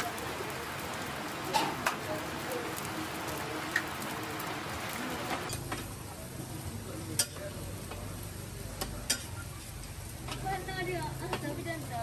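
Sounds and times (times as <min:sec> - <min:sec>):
omelette sizzling in a pan: 0:00.0 - 0:12.0.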